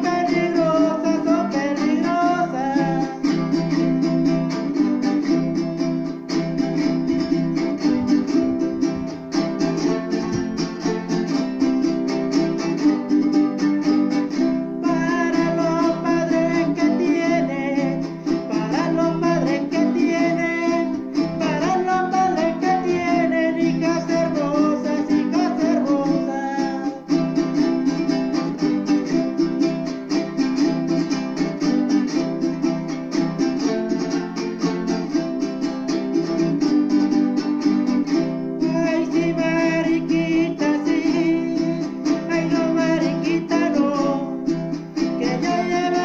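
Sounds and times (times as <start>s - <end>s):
jarana strumming: 0.0s - 46.0s
man singing: 0.0s - 46.0s.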